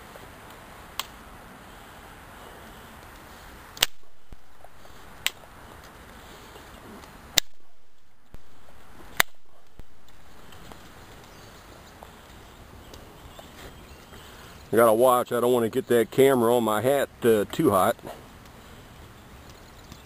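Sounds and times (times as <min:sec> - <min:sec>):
faint hiss: 0:00.0 - 0:20.0
campfire wood popping: 0:00.1 - 0:01.4, 0:02.0 - 0:15.5, 0:17.1 - 0:20.0.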